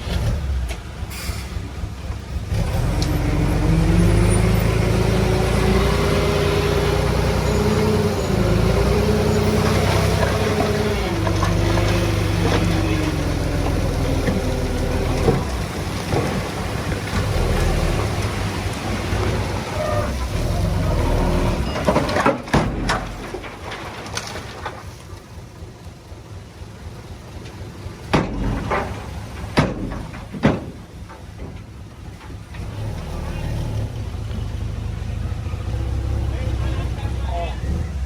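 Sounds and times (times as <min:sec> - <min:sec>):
heavy diesel engine under load: 0:00.0 - 0:38.0.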